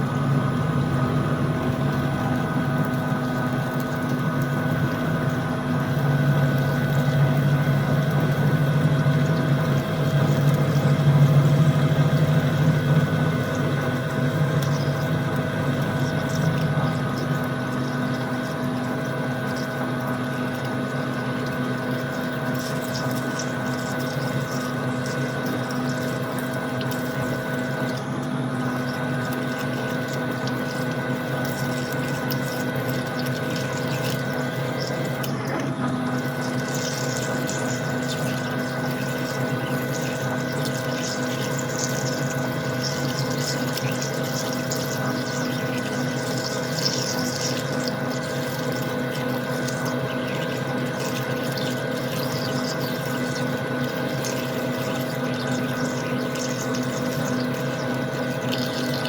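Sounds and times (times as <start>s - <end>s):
coolant flowing hiss: 0.0s - 59.0s.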